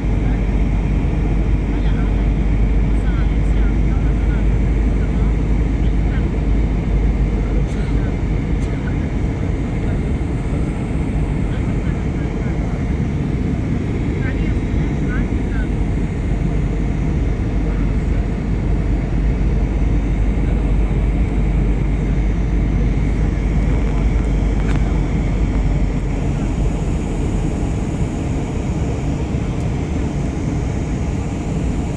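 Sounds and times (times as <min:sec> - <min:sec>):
airliner engine and airflow noise: 0:00.0 - 0:31.9.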